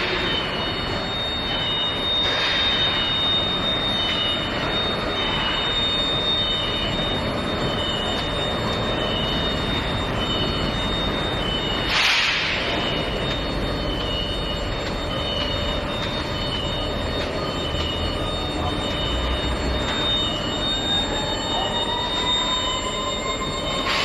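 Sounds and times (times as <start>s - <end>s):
industrial machine noise: 0.0s - 24.0s
lower pulsing whine: 0.0s - 24.0s
thin high-pitched whine: 0.0s - 24.0s.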